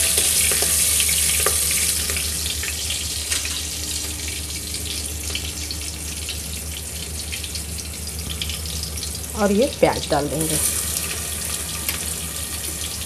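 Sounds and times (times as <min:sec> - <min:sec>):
seeds sizzling in hot oil: 0:00.0 - 0:06.4, 0:07.3 - 0:13.0
low steady hum: 0:00.0 - 0:13.0.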